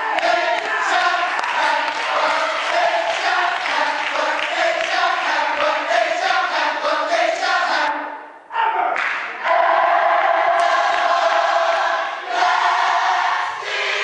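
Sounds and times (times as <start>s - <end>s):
gospel choir singing: 0.0s - 8.3s, 9.2s - 14.0s.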